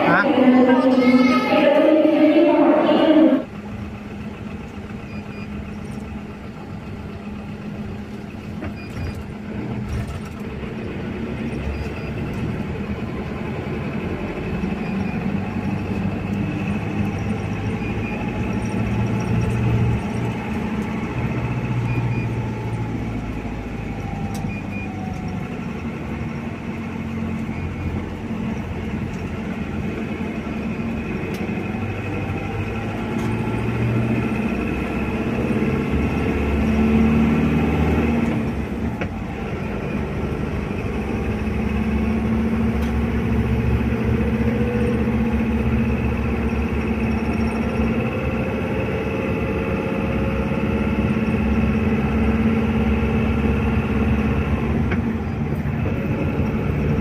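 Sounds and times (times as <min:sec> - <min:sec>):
van engine and road noise: 0:00.0 - 0:57.0.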